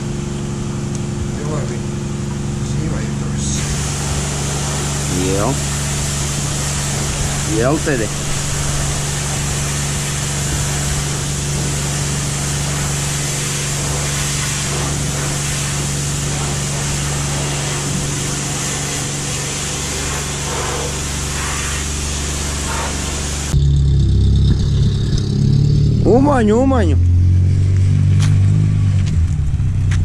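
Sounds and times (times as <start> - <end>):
car engine rumble: 0.0 - 30.0
car wash machinery humming: 0.0 - 30.0.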